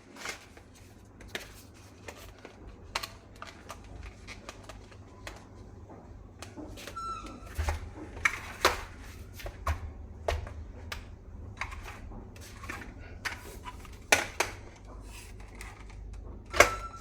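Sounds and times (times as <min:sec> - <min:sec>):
plastic parts clicking and knocking: 0:00.1 - 0:17.0.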